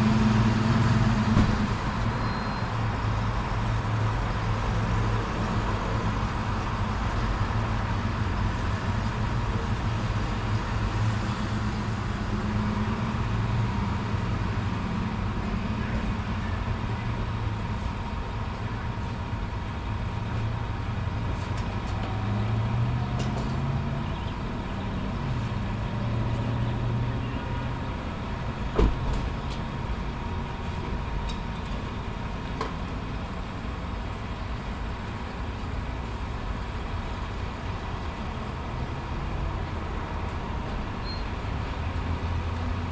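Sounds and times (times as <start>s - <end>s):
vehicle engines idling: 0.0s - 42.9s.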